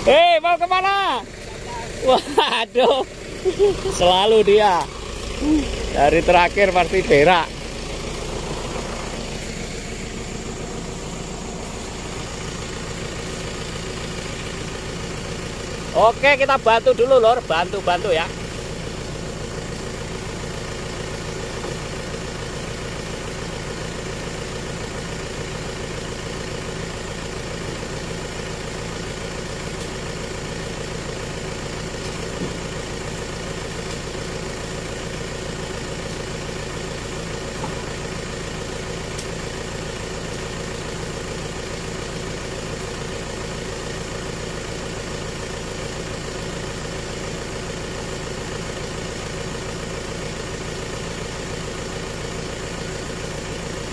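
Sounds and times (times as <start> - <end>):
truck engine idling: 0.0 - 53.9.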